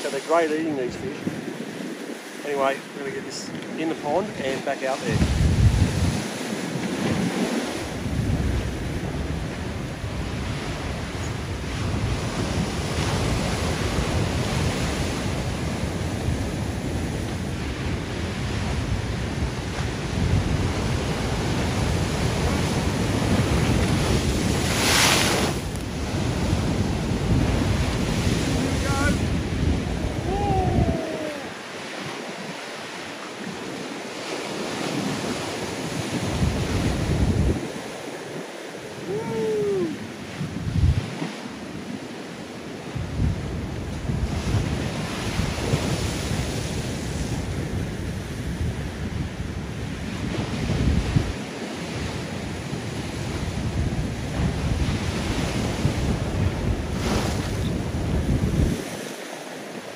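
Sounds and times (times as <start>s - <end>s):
waves washing over rocks: 0.0s - 59.9s
wind rumble on microphone: 0.1s - 59.9s.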